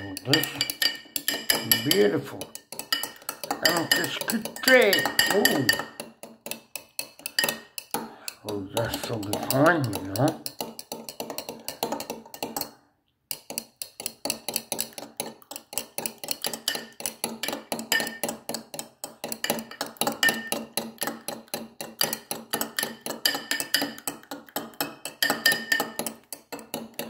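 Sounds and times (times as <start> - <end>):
fork clinking against glass: 0.0 - 6.1, 6.7 - 12.7, 13.4 - 18.4, 19.2 - 21.3, 22.0 - 27.0.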